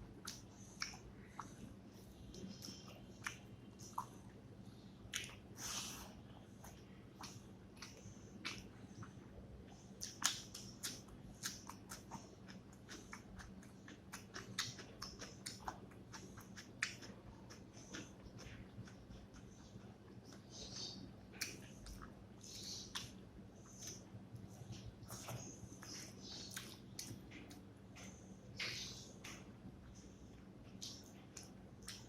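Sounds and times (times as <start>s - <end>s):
close chewing and mouth smacks: 0.1s - 32.0s.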